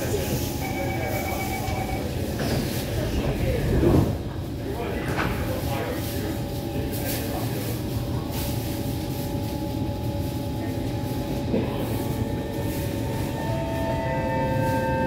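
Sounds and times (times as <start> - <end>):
train electrical hum: 0.0 - 15.0.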